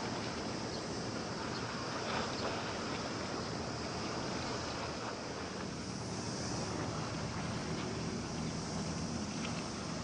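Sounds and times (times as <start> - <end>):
ship engine drone: 0.0 - 10.0
water noise: 0.0 - 10.0
wind: 0.0 - 10.0.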